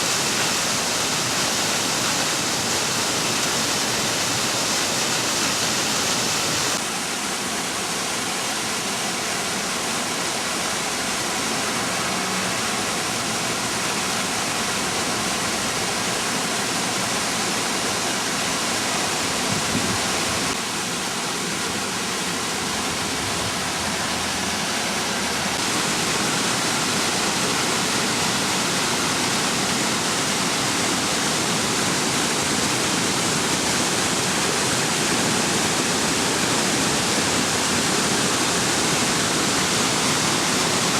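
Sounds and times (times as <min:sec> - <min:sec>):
water rushing down a ravine: 0:00.0 - 0:40.9.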